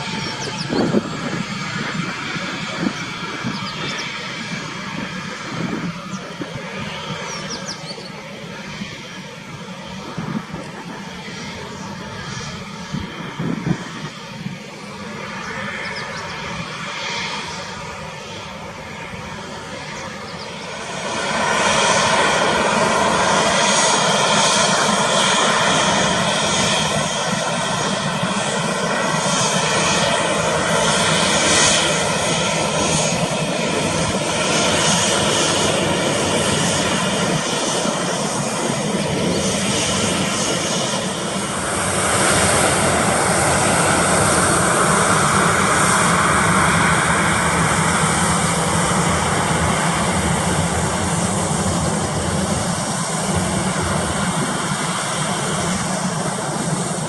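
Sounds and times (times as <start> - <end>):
jet engine whine: 0.0 - 57.0
jet engines roaring: 0.0 - 57.0.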